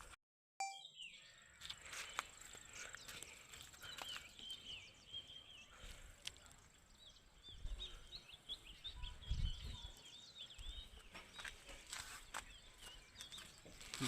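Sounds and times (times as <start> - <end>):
small birds chirping: 0.6 - 14.0.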